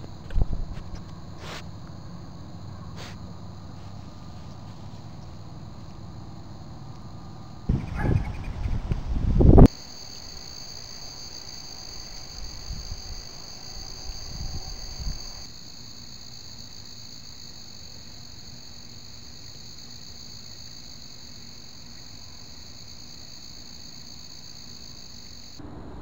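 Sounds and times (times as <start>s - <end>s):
night insects trilling: 0.0s - 25.7s.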